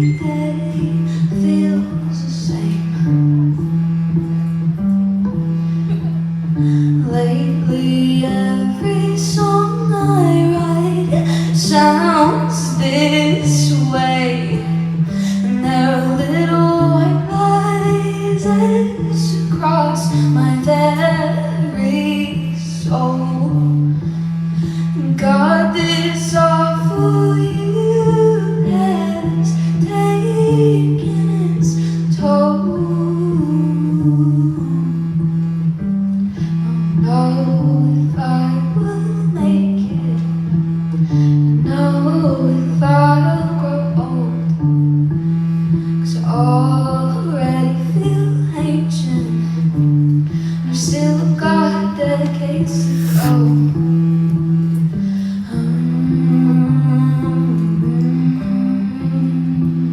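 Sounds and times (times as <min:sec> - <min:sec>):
woman singing: 0:00.0 - 0:03.6, 0:06.6 - 0:35.4, 0:36.6 - 0:44.9, 0:45.9 - 0:59.9
bass guitar playing: 0:00.0 - 0:59.9.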